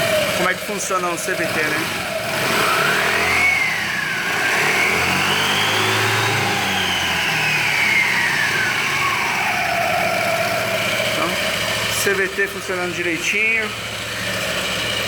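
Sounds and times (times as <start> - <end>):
scooter engine revving: 0.0 - 15.0.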